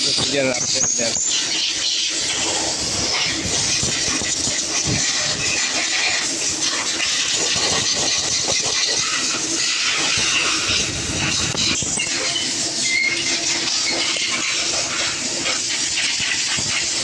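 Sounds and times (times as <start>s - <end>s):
machinery noise with hiss: 0.0s - 17.0s.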